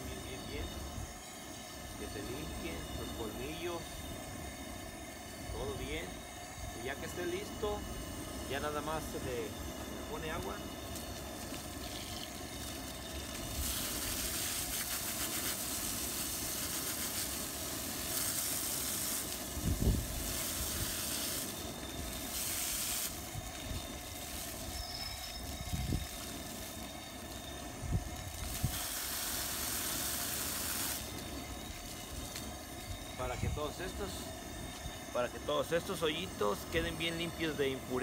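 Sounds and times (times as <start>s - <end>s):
hose water spraying on bone: 0.0s - 38.0s.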